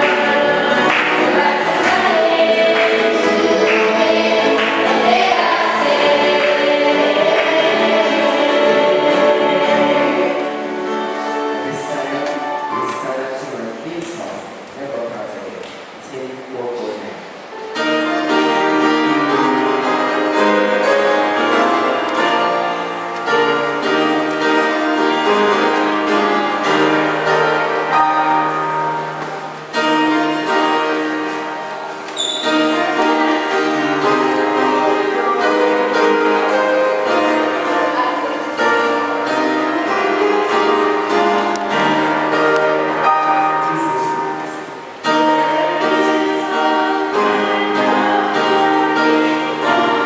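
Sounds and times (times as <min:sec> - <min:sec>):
slow instrumental music: 0:00.0 - 0:14.4, 0:17.3 - 0:50.0.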